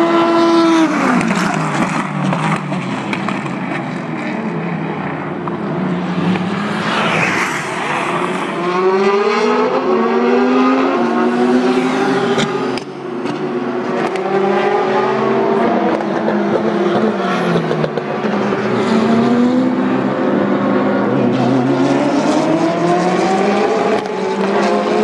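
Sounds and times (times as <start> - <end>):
race car engines at speed: 0.0 - 25.0.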